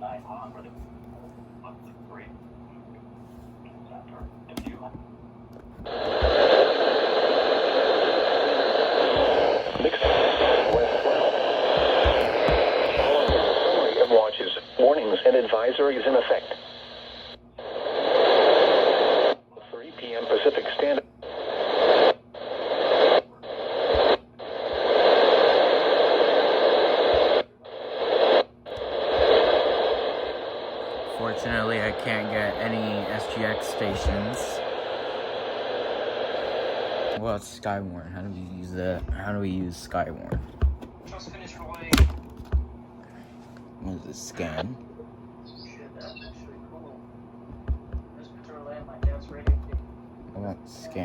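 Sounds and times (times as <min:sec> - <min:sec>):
radio static hiss: 0:05.8 - 0:40.4, 0:43.8 - 0:47.2, 0:47.9 - 0:51.0.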